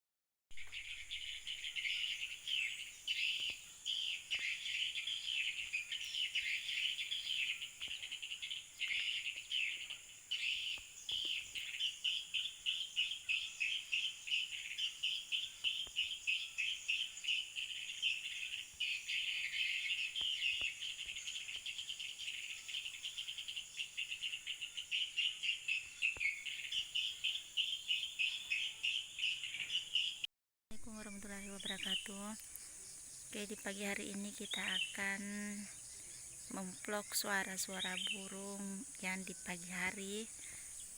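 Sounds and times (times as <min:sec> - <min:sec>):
birds chirping and trilling: 0:00.6 - 0:40.9.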